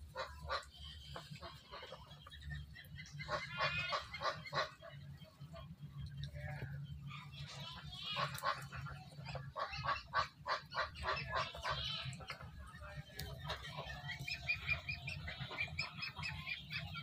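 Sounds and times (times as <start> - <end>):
ducks calling: 0.0 - 17.0
steady low hum: 0.0 - 17.0.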